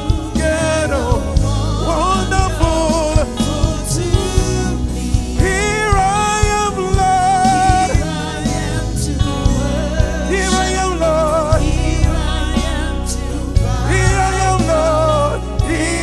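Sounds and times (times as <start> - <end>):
band with hand drums: 0.0 - 16.0
voices singing gospel: 0.0 - 16.0.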